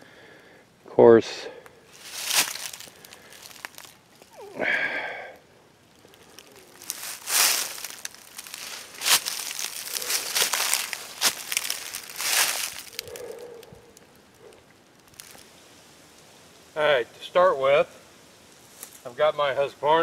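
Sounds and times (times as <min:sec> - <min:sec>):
leaves and twigs crunching underfoot: 0:01.7 - 0:16.8, 0:17.8 - 0:19.2.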